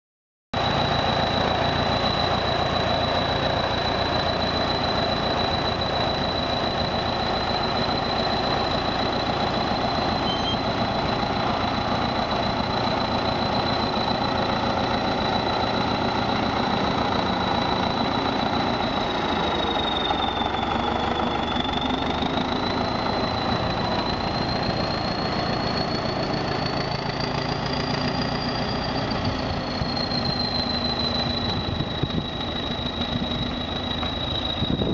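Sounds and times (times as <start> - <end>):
thin high whine: 0.6 - 27.4, 28.4 - 34.9
bulldozer diesel engine running: 0.6 - 34.9.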